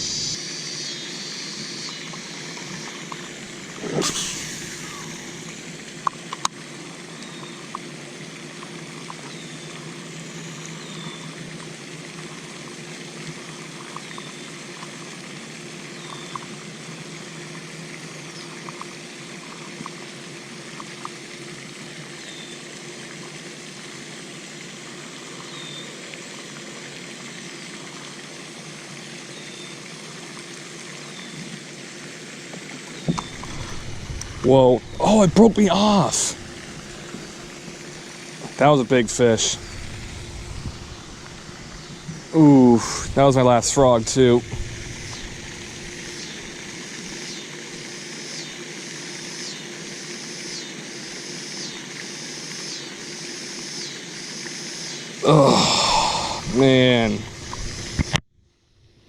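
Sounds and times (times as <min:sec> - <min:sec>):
water trickling through drain: 0:00.0 - 0:48.0.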